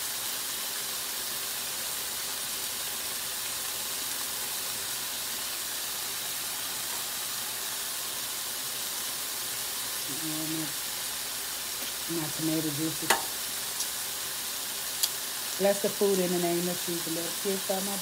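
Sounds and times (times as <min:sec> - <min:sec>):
electric grill sizzling: 0:00.0 - 0:18.0.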